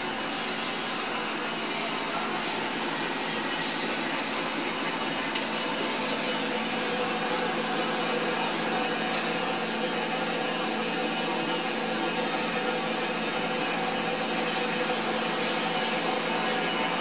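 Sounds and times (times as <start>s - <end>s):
small machine whirring: 0.0s - 17.0s.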